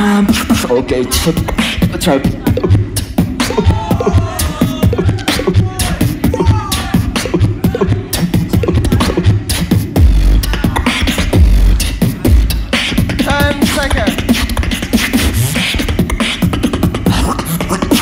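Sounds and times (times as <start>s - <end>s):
person beatboxing into microphone: 0.0s - 18.0s.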